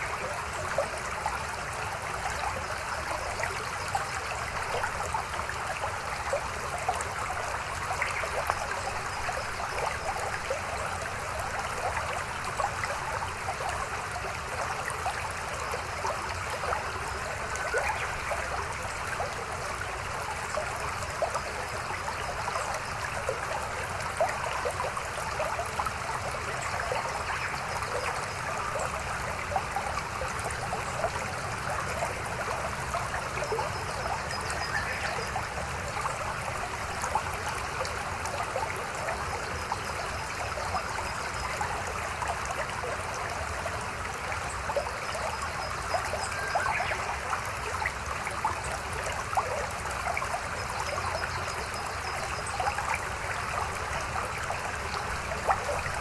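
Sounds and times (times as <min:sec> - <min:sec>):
stream babbling over rocks: 0:00.0 - 0:56.0.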